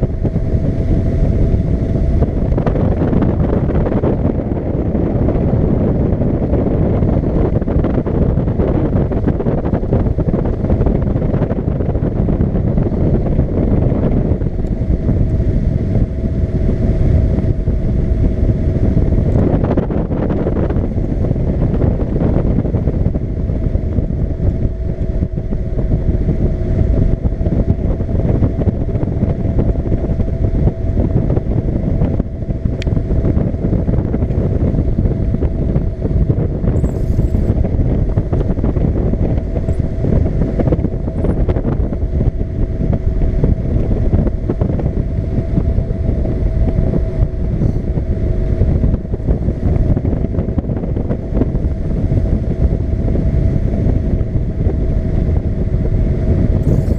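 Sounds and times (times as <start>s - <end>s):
paramotor engine and propeller: 0.0s - 56.9s
wind noise on microphone: 0.0s - 56.9s.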